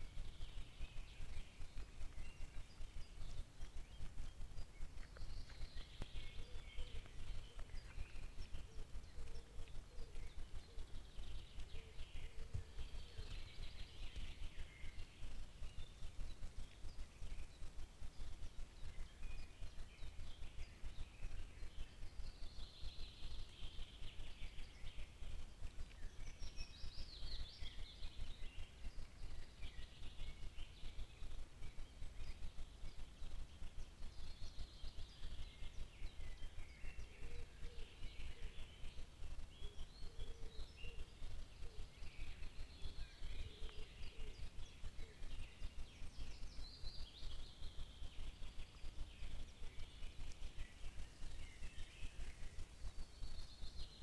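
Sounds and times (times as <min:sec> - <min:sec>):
birds chirping: 0:00.0 - 0:54.0
low crackling noise: 0:00.0 - 0:54.0.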